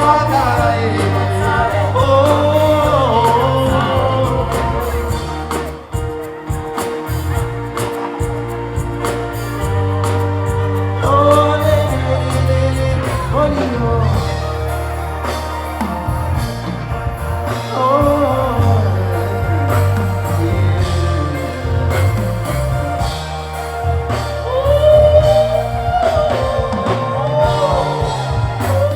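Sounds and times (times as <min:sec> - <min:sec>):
heavy bass music: 0:00.0 - 0:28.9
person singing: 0:00.0 - 0:28.9.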